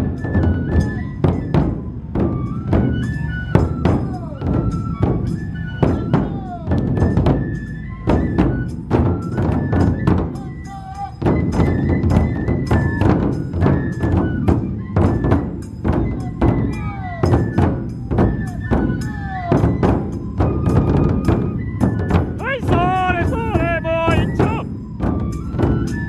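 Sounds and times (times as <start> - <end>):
high bamboo flute melody: 0.0 - 26.0
large barrel drums beating: 0.0 - 26.0.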